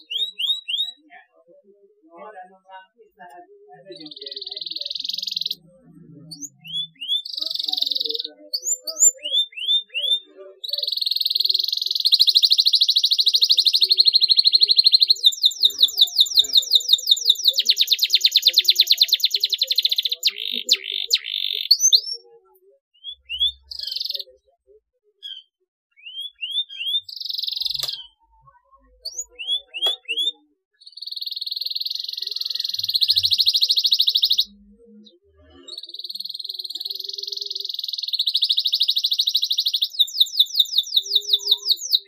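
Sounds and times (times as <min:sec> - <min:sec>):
canary singing: 0:00.0 - 0:42.0.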